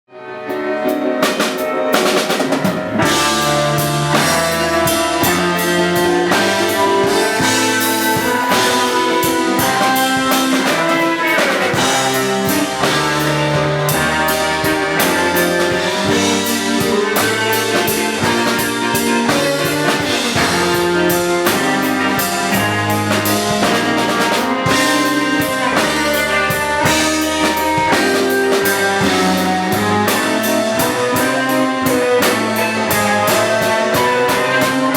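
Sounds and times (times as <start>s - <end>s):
rock jazz band music: 0.1s - 34.9s
drum kit playing: 0.4s - 34.9s.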